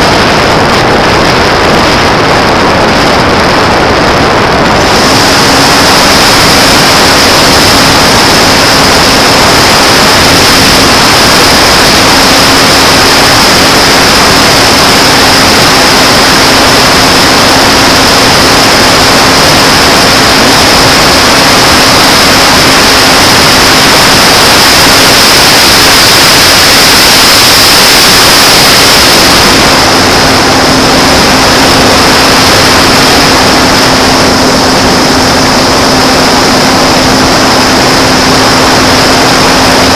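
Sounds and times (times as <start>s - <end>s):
electric motor and propeller: 0.0s - 39.9s
wind rush over microphone: 0.0s - 39.9s.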